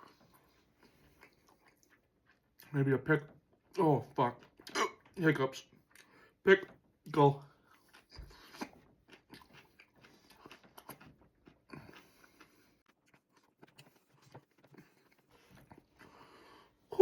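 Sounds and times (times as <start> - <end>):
chewing crunchy pickle: 0.0 - 6.2, 7.1 - 16.2.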